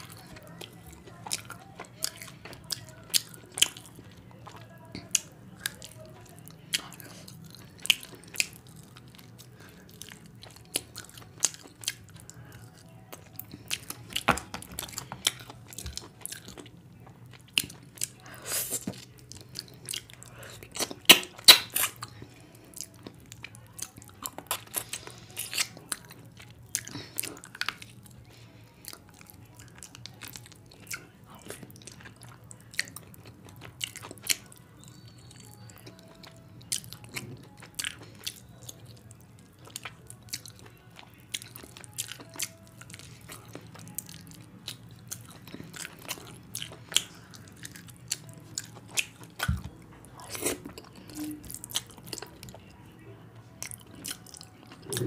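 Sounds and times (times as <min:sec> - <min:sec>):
wet chewing: 0:00.0 - 0:52.8, 0:53.5 - 0:55.0.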